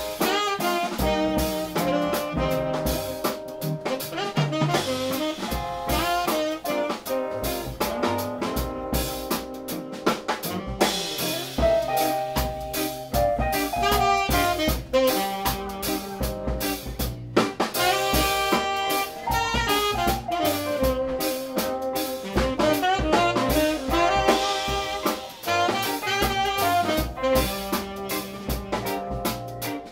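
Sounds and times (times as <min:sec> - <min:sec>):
jazz band playing live: 0:00.0 - 0:29.9
saxophone melody: 0:00.0 - 0:29.9.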